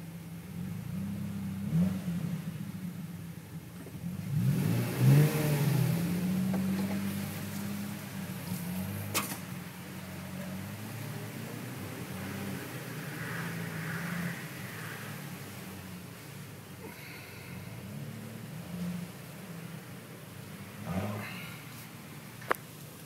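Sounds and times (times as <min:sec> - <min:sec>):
car engine revving: 0:00.3 - 0:22.5.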